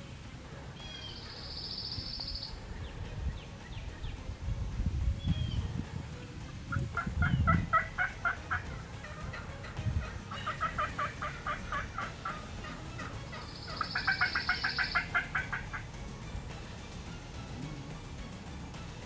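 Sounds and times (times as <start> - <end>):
wild turkeys gobbling: 0.4 - 4.4, 5.3 - 18.2.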